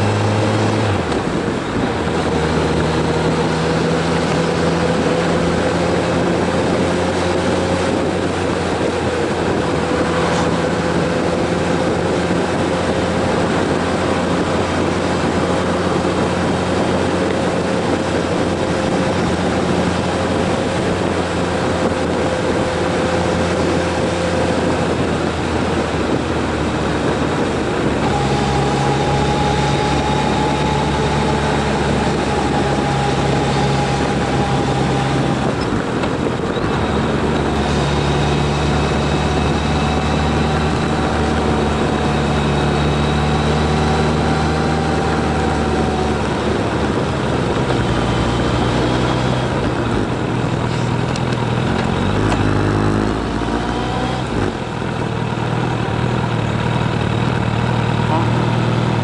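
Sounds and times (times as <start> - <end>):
car engine and tyre drone: 0.0 - 59.0.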